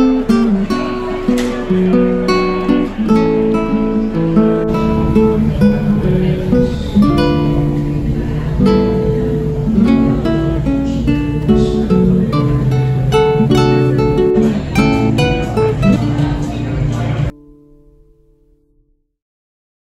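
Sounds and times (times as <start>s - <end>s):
acoustic guitar melody: 0.0s - 18.7s.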